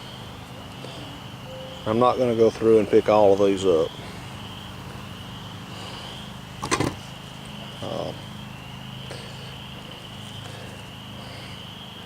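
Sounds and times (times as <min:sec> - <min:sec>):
insects chirring: 0:00.0 - 0:12.0
low steady hum: 0:00.0 - 0:12.0.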